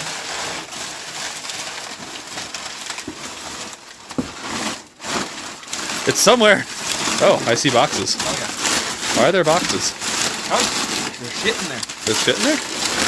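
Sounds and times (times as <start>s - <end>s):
cardboard rustling and crinkling: 0.0s - 13.0s.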